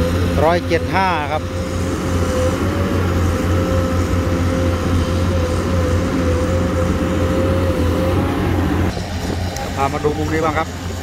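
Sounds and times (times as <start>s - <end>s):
excavator diesel engine drone: 0.0s - 11.0s
high hydraulic whine: 0.0s - 11.0s.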